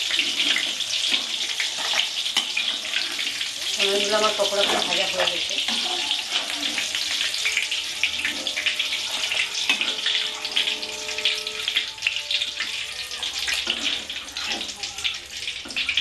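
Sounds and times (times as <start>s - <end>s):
hot oil sizzling and crackling: 0.0s - 16.0s
spoon stirring through oil: 0.0s - 16.0s.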